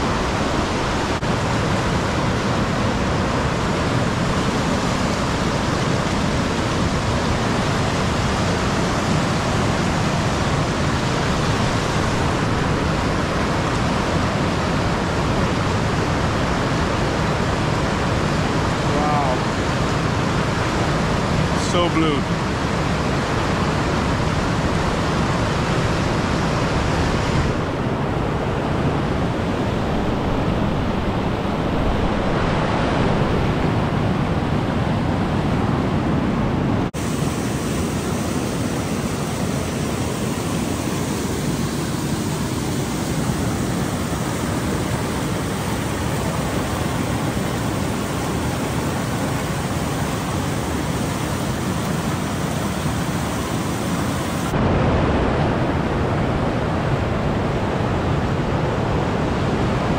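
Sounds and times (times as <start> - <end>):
river rapids rushing: 0.0 - 59.9.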